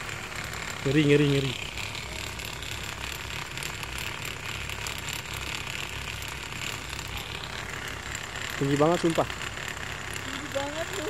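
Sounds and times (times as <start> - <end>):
cable ride rattling and humming: 0.0 - 11.0.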